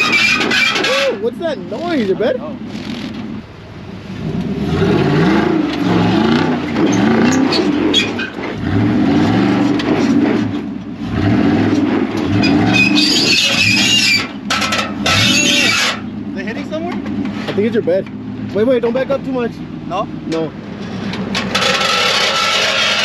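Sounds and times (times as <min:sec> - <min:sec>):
pickup truck engine revving: 0:00.0 - 0:23.0.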